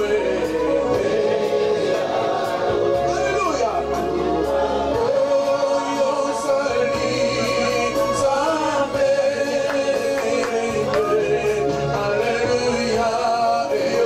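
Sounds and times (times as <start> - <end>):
voices singing worship song: 0.0 - 14.0.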